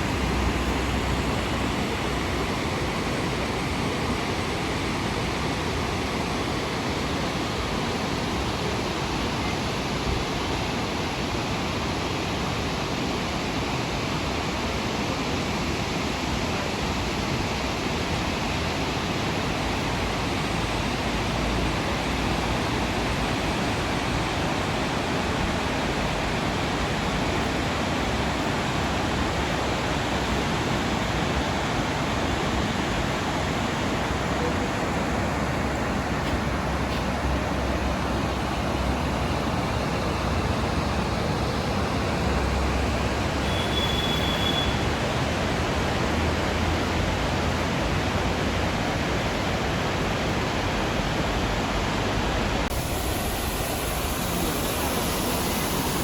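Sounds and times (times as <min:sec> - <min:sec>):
rush of falling water: 0:00.0 - 0:56.0.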